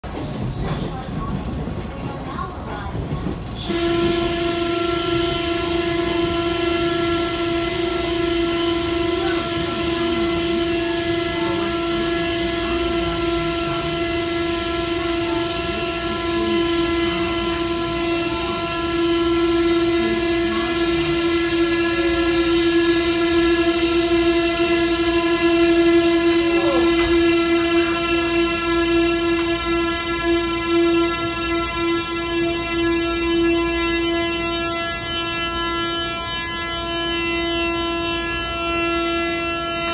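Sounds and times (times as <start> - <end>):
train rumble: 0.0 - 39.9
train horn long blast: 3.4 - 39.9.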